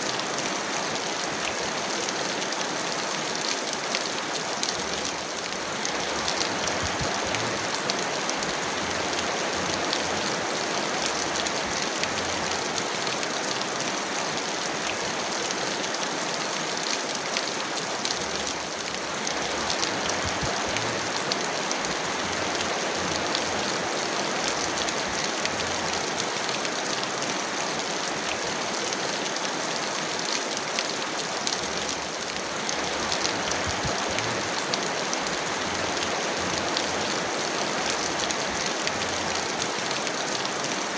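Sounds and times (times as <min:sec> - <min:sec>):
heavy rain falling: 0:00.0 - 0:40.9
raindrops ticking close by: 0:00.0 - 0:40.9.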